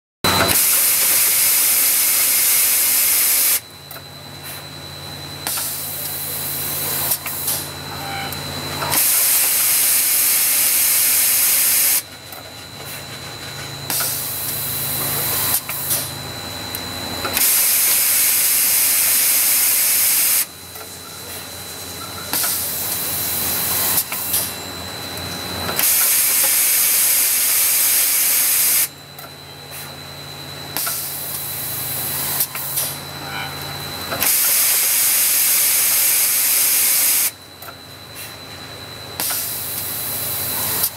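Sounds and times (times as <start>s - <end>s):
high machine whine: 0.2s - 40.9s.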